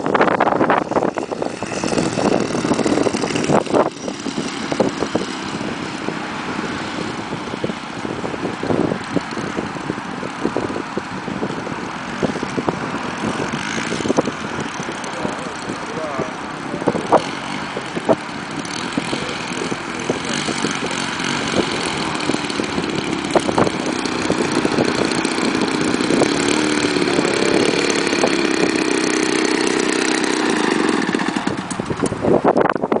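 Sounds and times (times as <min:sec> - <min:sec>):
model aircraft engine in flight: 0:00.0 - 0:33.0.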